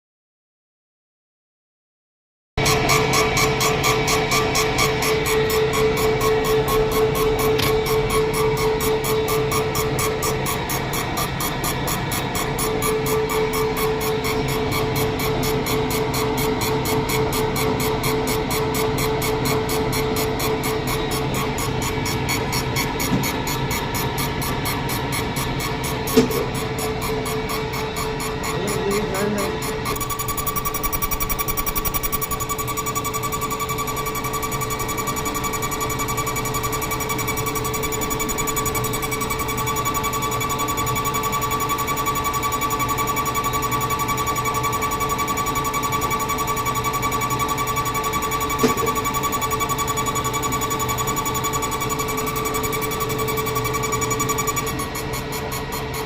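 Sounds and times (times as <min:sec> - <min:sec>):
diesel pump whining and pulsing: 0:02.6 - 0:56.0.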